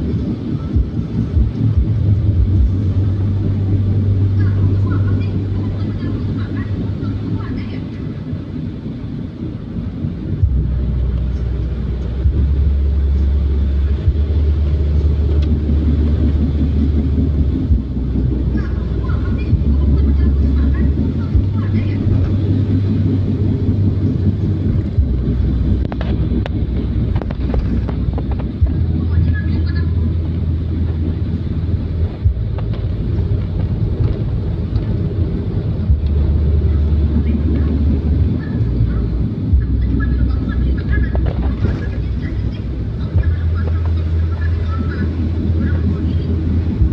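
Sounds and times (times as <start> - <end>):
rain: 0.0 - 46.9
road noise rumble: 0.0 - 46.9
wet tyres hissing: 0.0 - 46.9
wind: 0.0 - 46.9.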